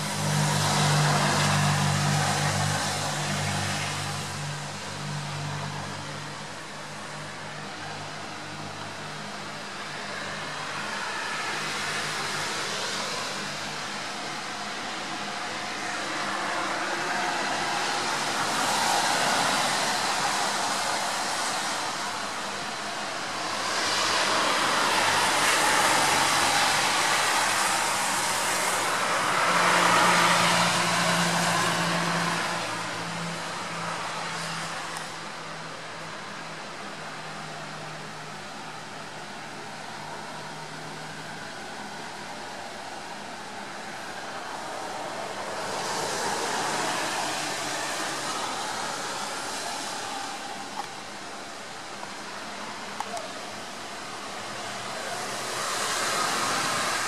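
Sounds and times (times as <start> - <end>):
tyres hissing on road: 0.0 - 57.0.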